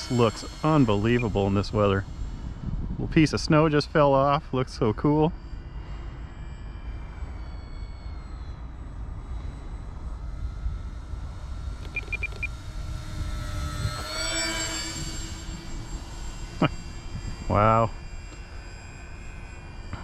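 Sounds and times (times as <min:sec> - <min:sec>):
model plane motors whining: 0:00.0 - 0:20.0
wind rumble on microphone: 0:00.0 - 0:20.0.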